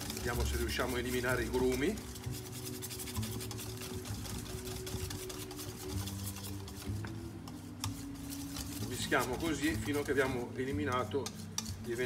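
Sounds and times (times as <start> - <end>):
whisk clicking in metal bowl: 0.0 - 12.0.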